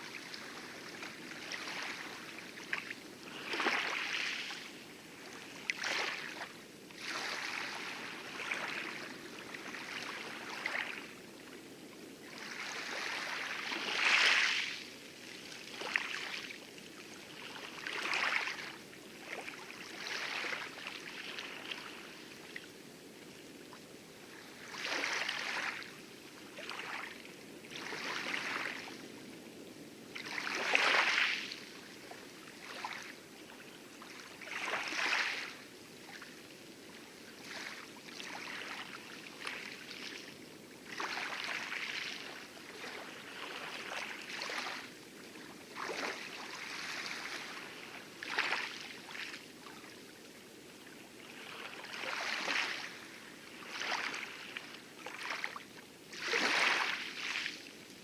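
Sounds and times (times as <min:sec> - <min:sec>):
small waves lapping against coral: 0:00.0 - 0:58.0.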